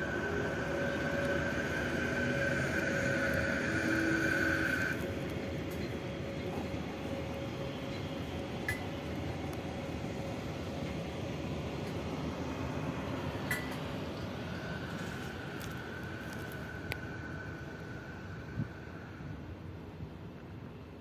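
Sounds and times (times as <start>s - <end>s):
train rolling rumble: 0.0s - 21.0s.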